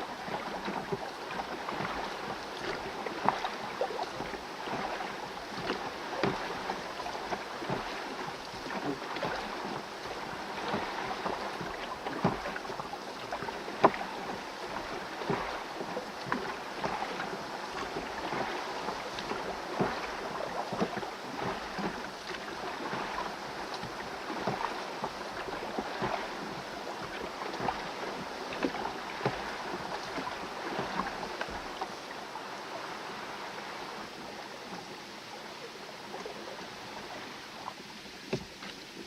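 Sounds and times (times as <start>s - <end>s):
oars dipping in water: 0.0s - 39.0s
water lapping against hull: 0.0s - 39.0s.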